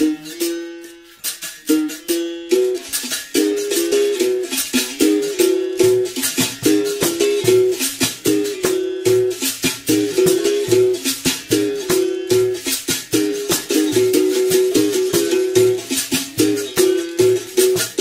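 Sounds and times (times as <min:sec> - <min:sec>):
berimbau string struck: 0:00.0 - 0:18.0
rattle shaking: 0:00.4 - 0:18.0.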